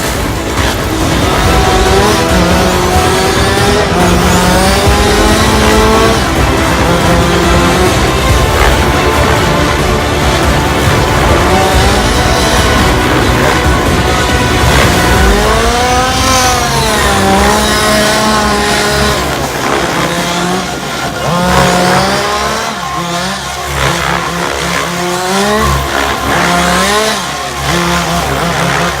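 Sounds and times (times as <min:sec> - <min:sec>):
rc helicopter motor whine: 0:00.0 - 0:29.0.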